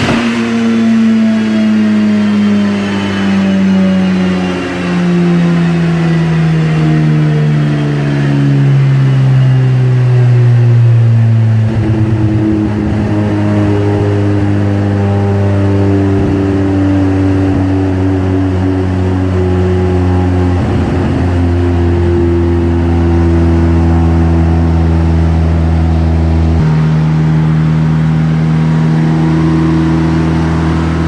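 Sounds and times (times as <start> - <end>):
rotary engine winding down: 0.0 - 31.0.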